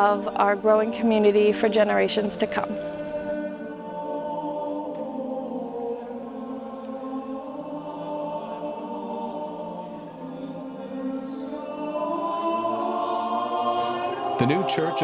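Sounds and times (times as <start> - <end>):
choir singing a slow chant: 0.0 - 15.0.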